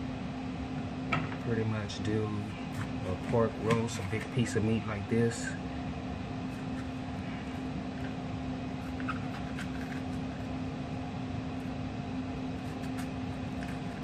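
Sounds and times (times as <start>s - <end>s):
appliance humming: 0.0s - 14.0s.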